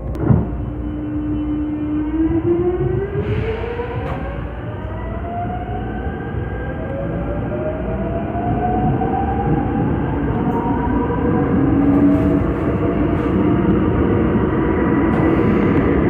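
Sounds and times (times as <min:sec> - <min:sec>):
rumble of wheels on rails: 0:00.0 - 0:16.0
train traction motors whining: 0:00.2 - 0:16.0.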